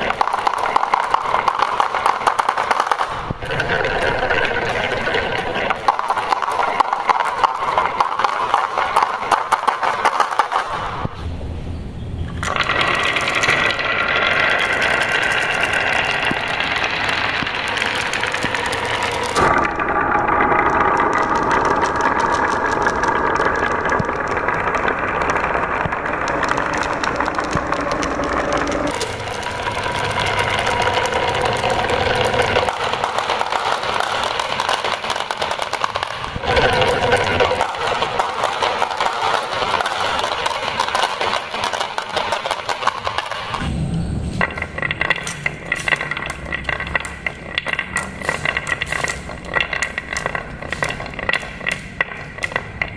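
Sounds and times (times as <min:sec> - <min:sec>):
plastic balls rattling down tracks: 0:00.0 - 0:11.2, 0:12.3 - 0:52.9.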